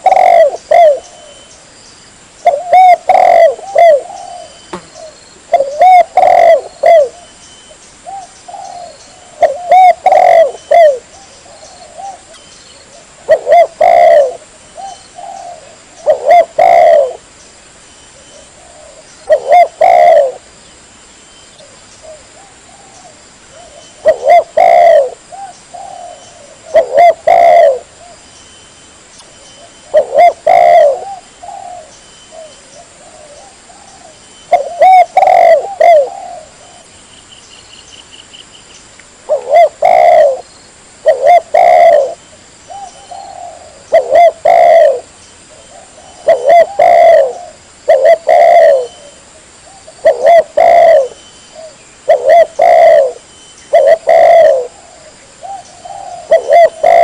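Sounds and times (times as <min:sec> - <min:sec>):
dove cooing: 0:00.0 - 0:01.5, 0:02.4 - 0:07.3, 0:08.0 - 0:17.3, 0:18.2 - 0:20.4, 0:21.6 - 0:28.2, 0:29.6 - 0:36.9, 0:39.3 - 0:40.4, 0:41.0 - 0:57.0.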